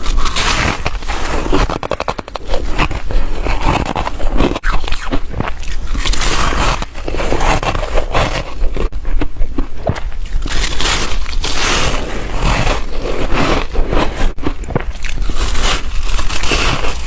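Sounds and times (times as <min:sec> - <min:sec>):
ice being crunched and chewed: 0:00.0 - 0:17.0.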